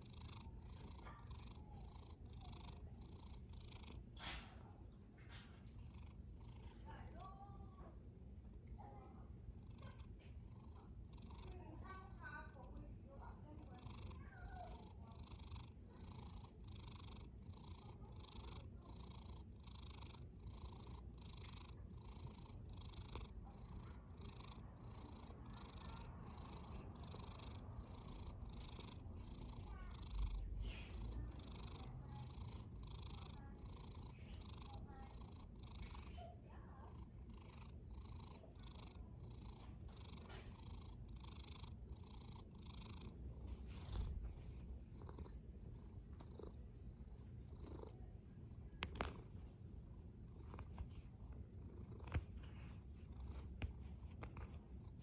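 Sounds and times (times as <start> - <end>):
cat snoring: 0.0 - 4.6, 9.7 - 12.1, 13.5 - 55.0.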